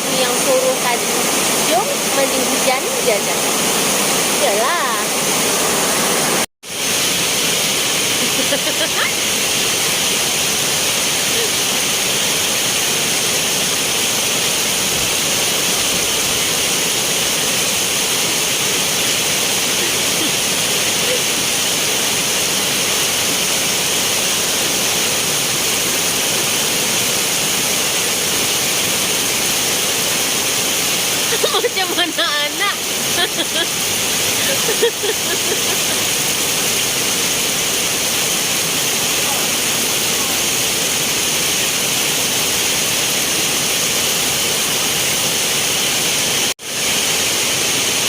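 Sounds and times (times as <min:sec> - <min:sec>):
heavy rain pouring: 0:00.0 - 0:48.0.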